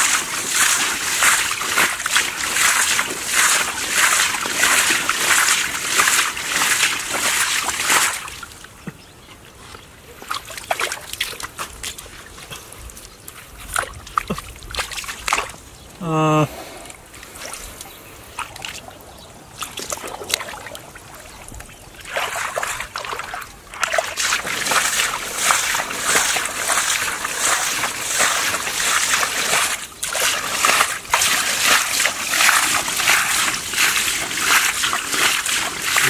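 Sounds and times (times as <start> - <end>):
foot splashing in pond water: 0.0 - 36.0.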